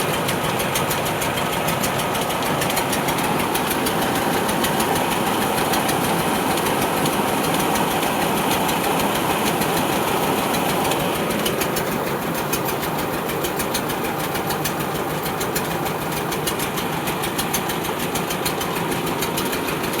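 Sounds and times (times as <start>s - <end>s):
tractor diesel engine clattering: 0.0s - 20.0s.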